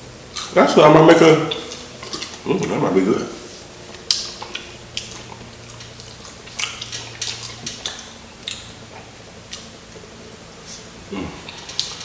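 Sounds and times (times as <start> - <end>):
crunching of fried chicken chewing: 1.5 - 12.0.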